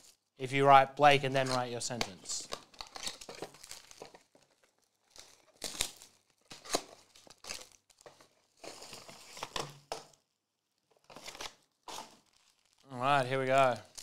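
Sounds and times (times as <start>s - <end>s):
foil card packs crinkling: 1.3s - 10.2s, 10.8s - 14.0s.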